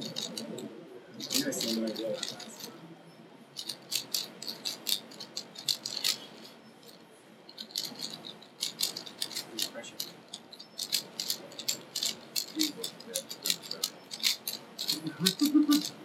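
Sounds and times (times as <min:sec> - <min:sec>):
puzzle cube layers clicking: 0:00.0 - 0:02.7, 0:03.6 - 0:06.5, 0:07.6 - 0:09.6, 0:10.3 - 0:16.0.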